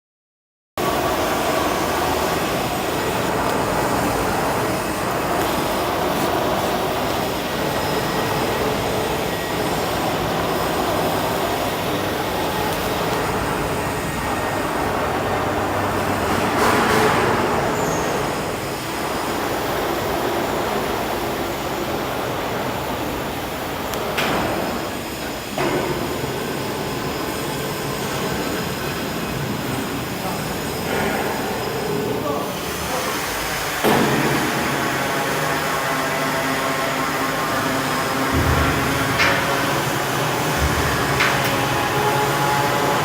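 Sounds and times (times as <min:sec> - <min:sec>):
machinery rumbling: 0:00.8 - 0:33.0, 0:34.5 - 0:43.0.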